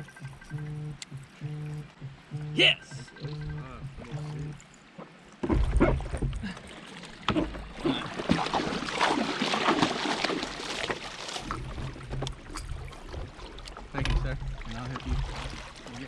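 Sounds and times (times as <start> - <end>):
water splashing at paddle board: 3.0 - 16.0.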